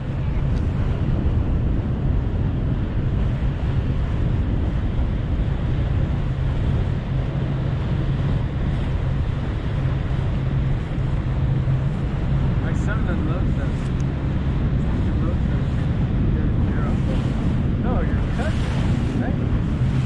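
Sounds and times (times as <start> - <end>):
low engine drone: 0.0 - 20.0
water washing around boat hull: 0.0 - 20.0
wind buffeting microphone: 0.0 - 20.0.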